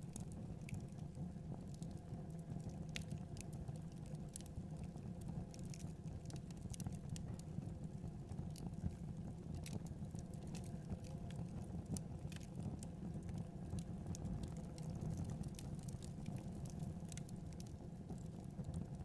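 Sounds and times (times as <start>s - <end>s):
fire crackling and popping: 0.0s - 19.0s
low rumble of burning: 0.0s - 19.0s.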